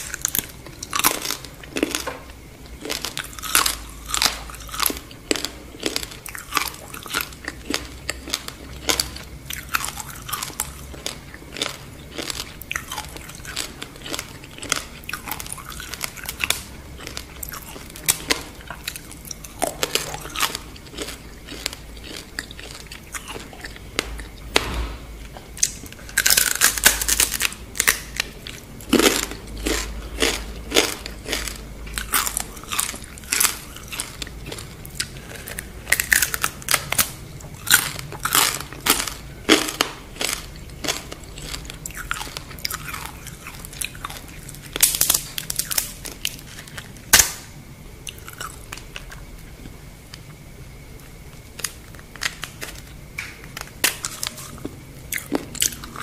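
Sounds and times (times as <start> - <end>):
crisp crunching and chewing: 0.0 - 56.0.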